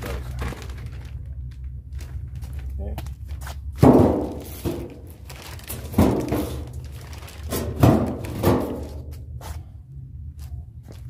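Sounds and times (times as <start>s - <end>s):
rustling thumps of plastic-wrapped panel: 0.0s - 9.2s
steady low rumble: 0.0s - 11.0s.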